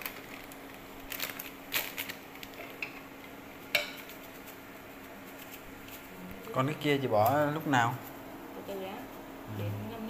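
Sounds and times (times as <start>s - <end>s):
chopsticks stirring boiling leaves: 0.0s - 10.0s
induction cooker hum: 0.0s - 10.0s.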